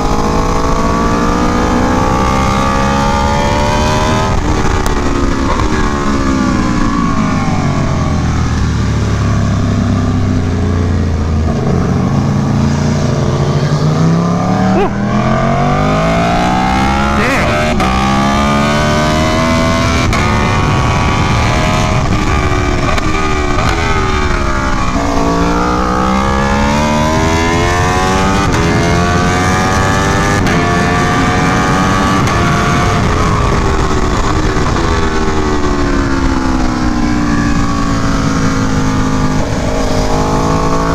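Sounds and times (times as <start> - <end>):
motorcycle engine revving: 0.0 - 40.9
wind rush over microphone: 0.0 - 40.9.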